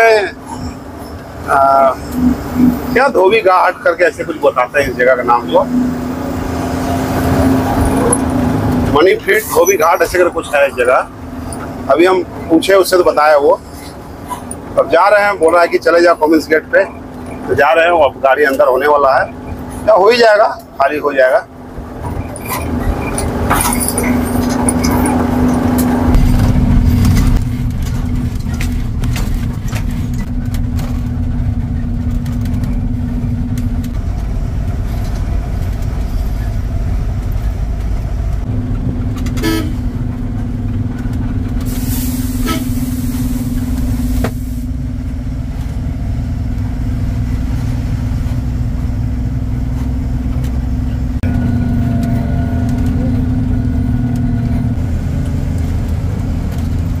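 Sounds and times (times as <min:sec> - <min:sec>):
road rumble: 0:00.0 - 0:57.0
truck diesel engine droning: 0:00.0 - 0:57.0.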